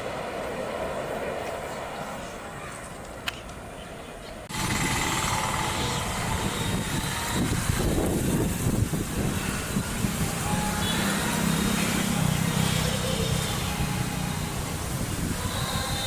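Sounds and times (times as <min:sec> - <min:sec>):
electric locomotive rolling: 0:00.0 - 0:03.7, 0:04.4 - 0:16.0
engine rumble: 0:00.0 - 0:16.0.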